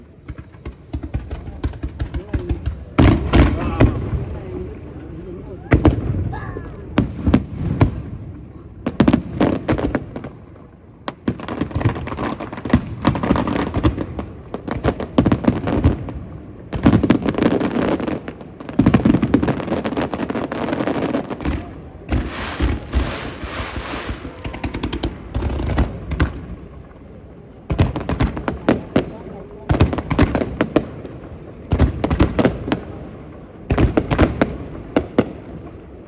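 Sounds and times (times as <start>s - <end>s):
fireworks bursting with sharp bangs: 0.0s - 36.0s
fireworks crackling: 0.0s - 36.0s.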